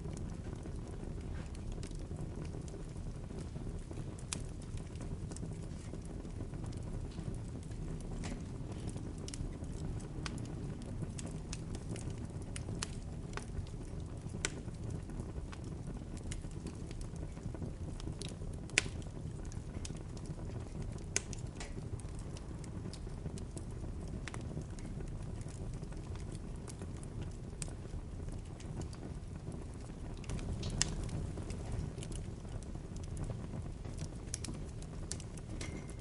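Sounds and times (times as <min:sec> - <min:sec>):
bonfire rushing: 0:00.0 - 0:36.0
burning wood crackling and popping: 0:00.0 - 0:36.0.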